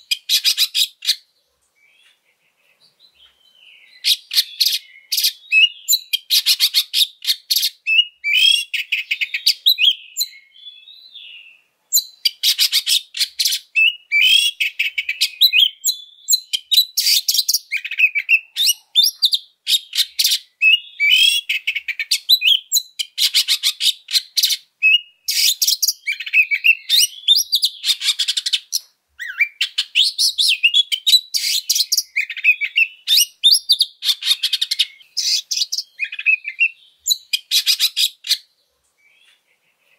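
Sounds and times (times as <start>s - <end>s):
bird singing harsh and whistled notes: 0.0s - 39.9s.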